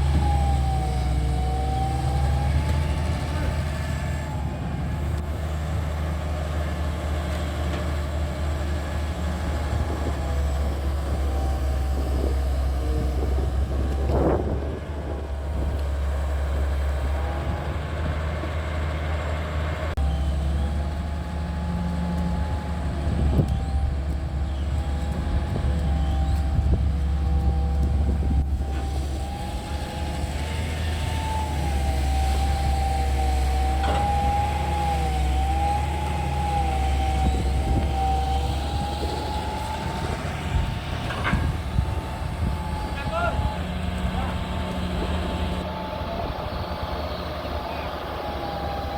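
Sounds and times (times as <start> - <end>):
diesel engine rumbling: 0.0 - 48.9
hydraulics whining: 0.0 - 48.9.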